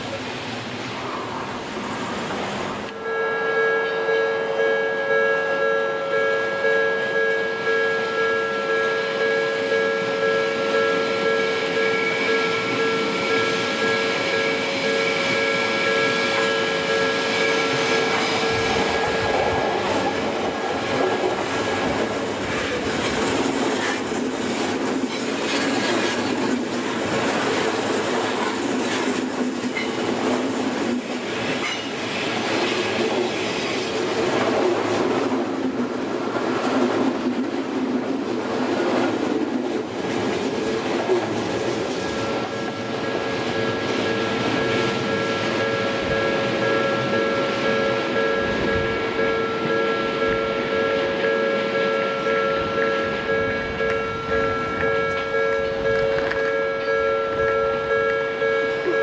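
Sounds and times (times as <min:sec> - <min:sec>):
train wheels on rails: 0:00.0 - 0:59.0
crossing warning bell: 0:02.8 - 0:37.6, 0:39.1 - 0:59.0.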